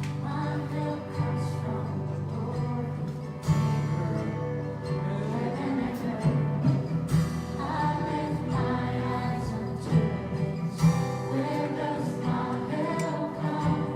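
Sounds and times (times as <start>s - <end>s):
strummed acoustic guitar: 0.0s - 13.9s.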